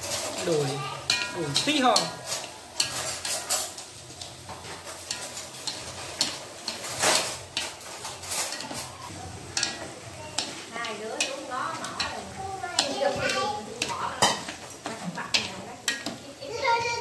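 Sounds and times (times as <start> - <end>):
chopsticks scraping metal wok: 0.0 - 17.0
meat sizzling: 0.0 - 17.0.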